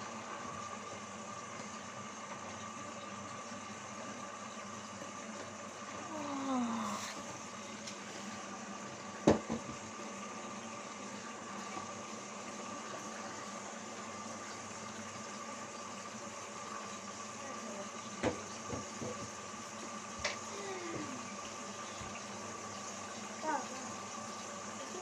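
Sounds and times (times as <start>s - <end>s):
washing machine running: 0.0s - 25.0s.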